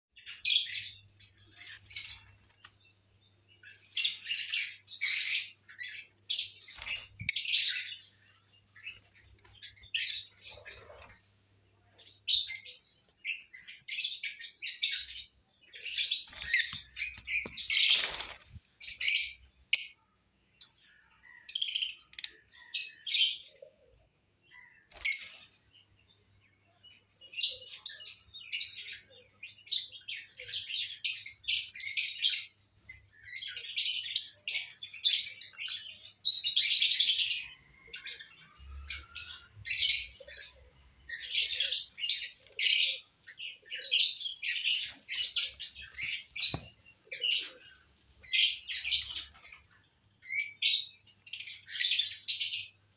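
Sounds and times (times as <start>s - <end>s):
lovebirds chirping and chattering: 0.1s - 52.9s.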